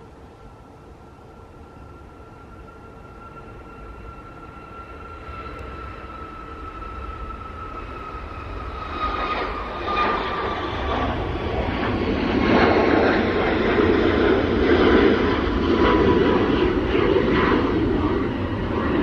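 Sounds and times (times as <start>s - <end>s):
jet engines whining and roaring: 0.0s - 19.0s.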